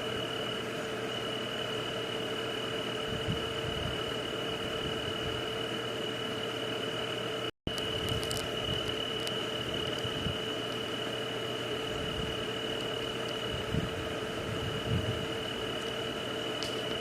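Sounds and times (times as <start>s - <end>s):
high continuous tone: 0.0s - 17.0s
low steady hum: 0.0s - 17.0s.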